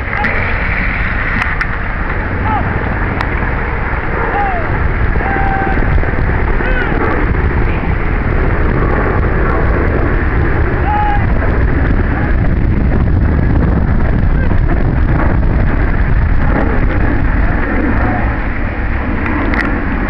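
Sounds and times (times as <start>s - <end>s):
heavy low rumble: 0.0s - 20.0s
wind buffeting microphone: 0.0s - 20.0s.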